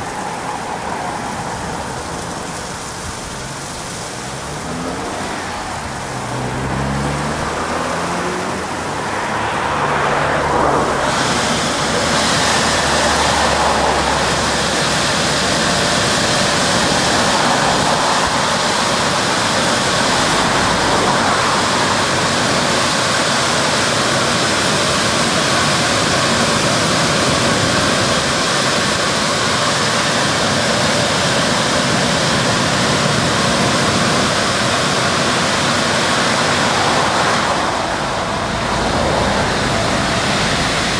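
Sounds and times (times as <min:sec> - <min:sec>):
car wash rushing hiss: 0:00.0 - 0:40.9.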